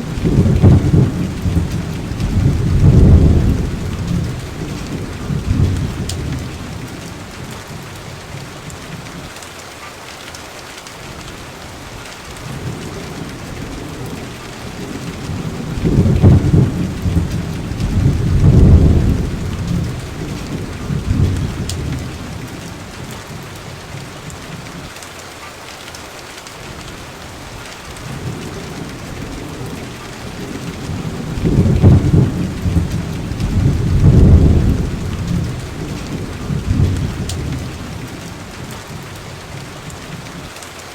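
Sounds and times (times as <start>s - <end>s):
rolling thunder rumble: 0.0s - 8.4s, 12.4s - 24.4s, 27.9s - 40.5s
steady rain: 0.0s - 40.9s.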